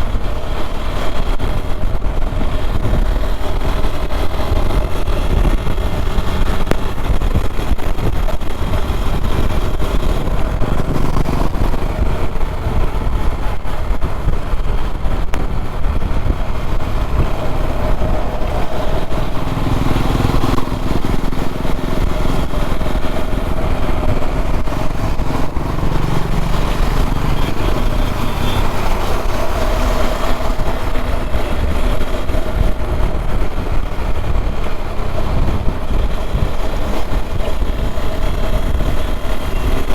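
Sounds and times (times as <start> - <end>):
motorcycle engine at speed: 0.0 - 39.9
road and wind rumble: 0.0 - 39.9.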